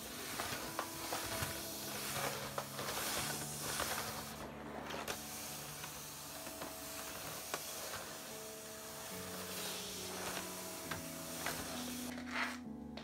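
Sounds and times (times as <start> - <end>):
soft background music: 0.0 - 13.0
vacuum cleaner on laminate floor: 0.0 - 13.0.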